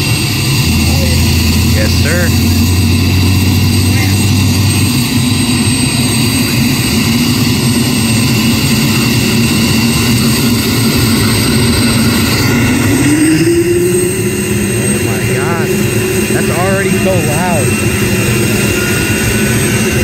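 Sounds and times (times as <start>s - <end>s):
engines spooling up: 0.0s - 20.0s
helicopter turbine whine: 0.0s - 20.0s.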